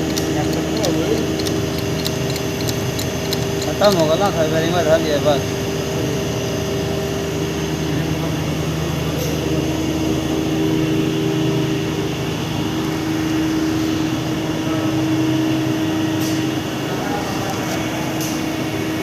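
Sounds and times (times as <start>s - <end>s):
industrial machinery droning: 0.0s - 19.0s.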